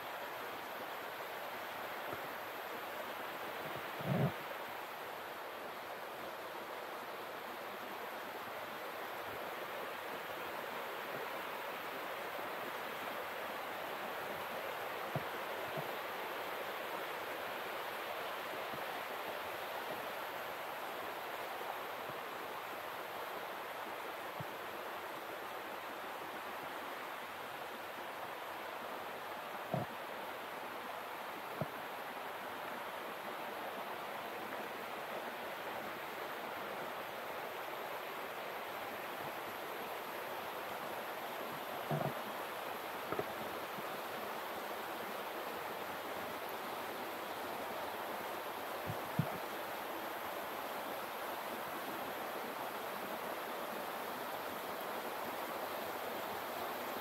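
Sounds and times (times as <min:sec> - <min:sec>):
flowing water: 0:00.0 - 0:57.0.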